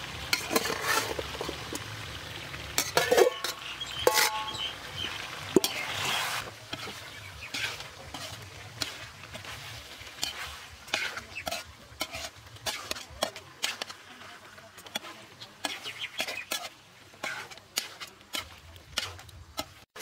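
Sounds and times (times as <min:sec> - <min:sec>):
curry sizzling in a metal pan: 0:00.0 - 0:20.0
metal spatula scraping a pan: 0:00.1 - 0:02.0, 0:02.6 - 0:20.0.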